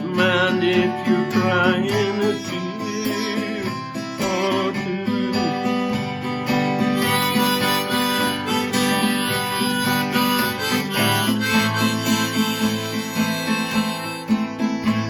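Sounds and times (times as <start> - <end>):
harmonica melody: 0.0 - 15.0
strummed acoustic guitar: 0.0 - 15.0.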